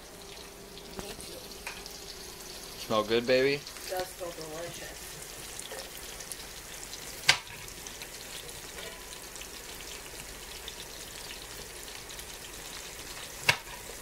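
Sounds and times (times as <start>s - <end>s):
fish frying in hot oil: 0.0s - 14.0s.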